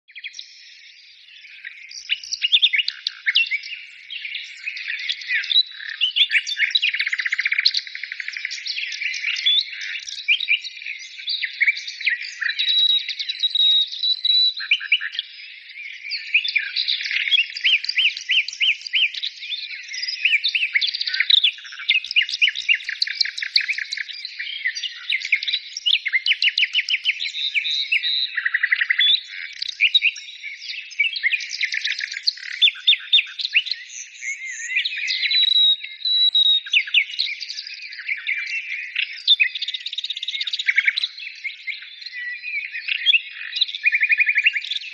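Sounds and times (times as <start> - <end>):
songbirds chorus: 0.0 - 44.9.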